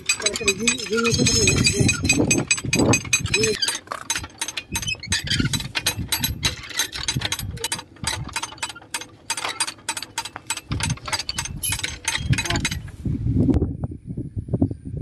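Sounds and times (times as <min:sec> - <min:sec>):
winch ratcheting clicks: 0:00.0 - 0:12.9.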